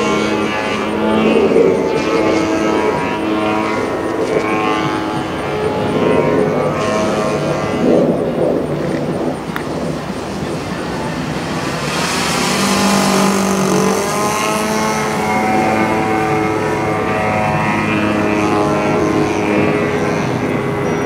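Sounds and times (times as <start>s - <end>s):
model plane engine buzzing: 0.0s - 21.0s.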